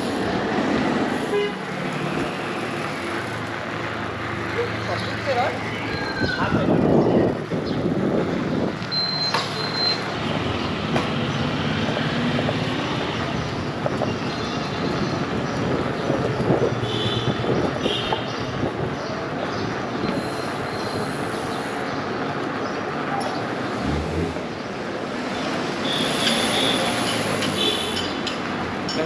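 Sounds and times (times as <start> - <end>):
bike tyres humming on road: 0.0 - 28.0.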